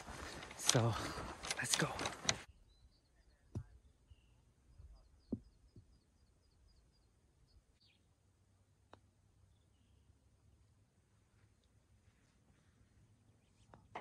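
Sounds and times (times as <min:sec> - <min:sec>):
faint rapid bird chirps: 0:01.6 - 0:08.3, 0:09.1 - 0:13.9.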